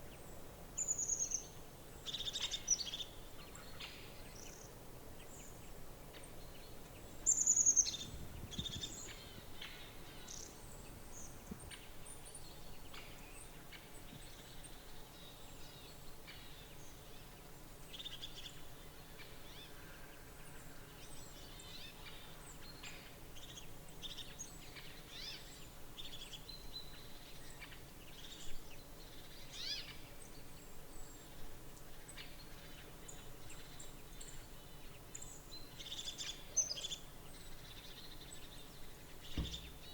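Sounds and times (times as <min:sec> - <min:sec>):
small birds chirping: 0:00.0 - 0:17.3, 0:20.9 - 0:39.9
steady outdoor background: 0:00.0 - 0:39.9.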